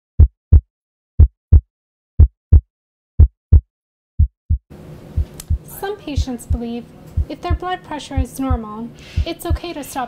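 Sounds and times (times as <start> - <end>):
heartbeat thumps: 0.2 - 4.6, 5.2 - 9.8.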